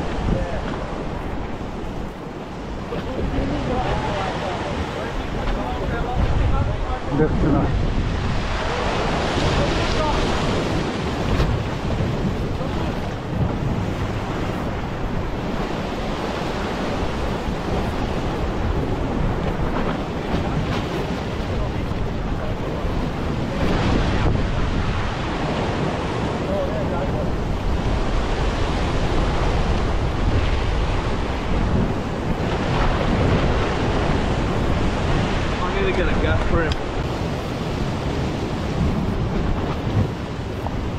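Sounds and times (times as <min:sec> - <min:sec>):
surf breaking on rocks: 0:00.0 - 0:40.9
wind buffeting microphone: 0:00.0 - 0:40.9.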